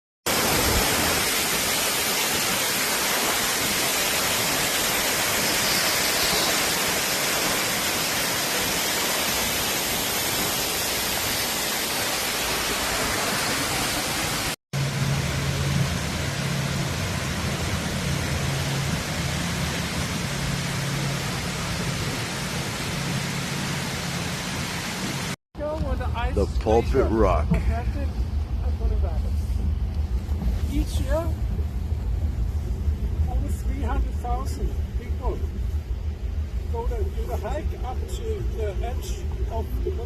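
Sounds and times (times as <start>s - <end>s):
boat engine humming: 1.3s - 40.0s.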